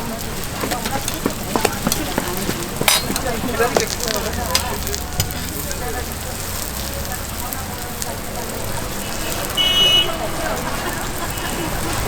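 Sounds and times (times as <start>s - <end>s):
pancake sizzling in oil: 0.0s - 12.0s.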